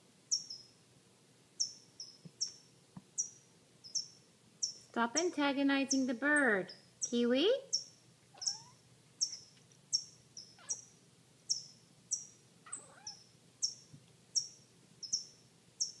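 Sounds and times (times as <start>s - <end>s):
small bird chirping: 0.3s - 0.8s, 1.6s - 16.0s.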